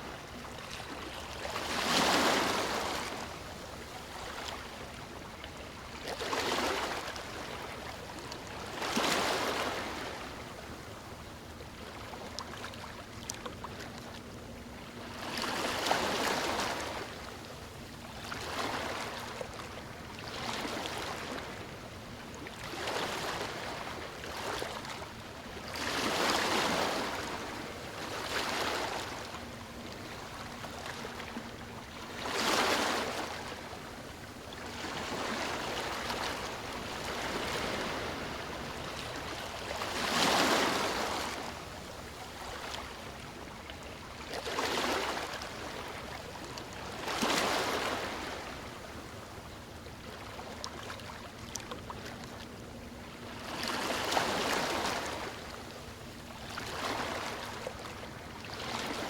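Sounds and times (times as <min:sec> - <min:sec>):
small waves breaking on shore: 0:00.0 - 0:59.0.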